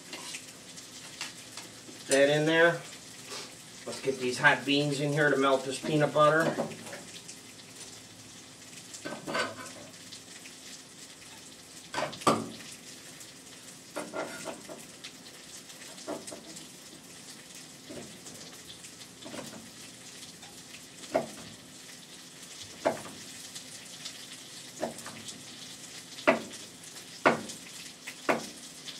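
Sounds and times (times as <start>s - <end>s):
food sizzling in a pan: 0.0s - 28.9s.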